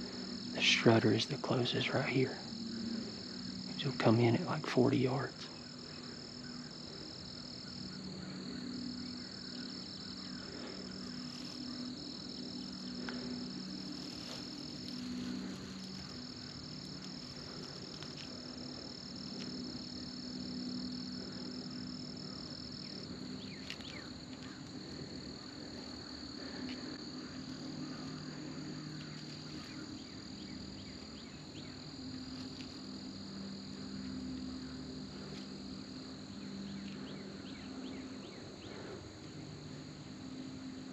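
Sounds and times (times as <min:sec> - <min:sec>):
frogs trilling: 0:00.0 - 0:40.9
insects trilling: 0:00.0 - 0:40.9.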